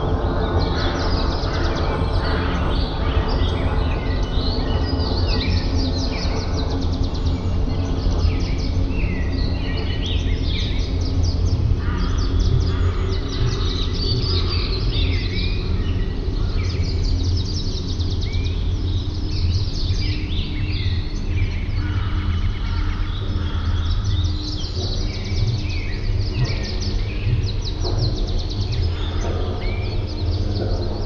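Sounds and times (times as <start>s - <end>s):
steady low hum: 0.0s - 31.0s
wild birds chirping and trilling: 0.0s - 31.0s.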